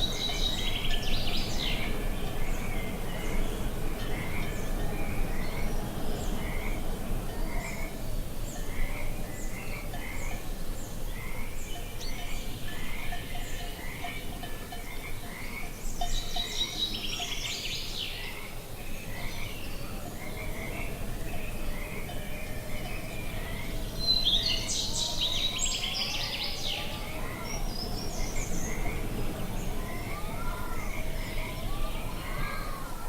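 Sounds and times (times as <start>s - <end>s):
bird song: 0.0s - 33.0s.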